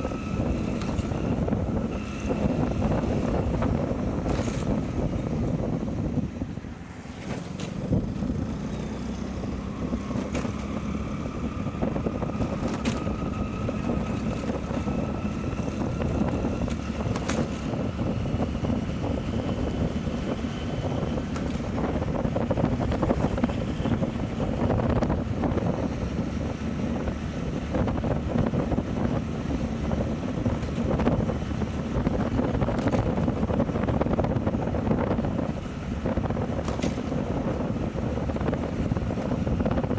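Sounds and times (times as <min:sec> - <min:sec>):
motorcycle engine riding: 0:00.0 - 0:39.9
road noise: 0:00.0 - 0:39.9
wind noise on microphone: 0:00.0 - 0:39.9.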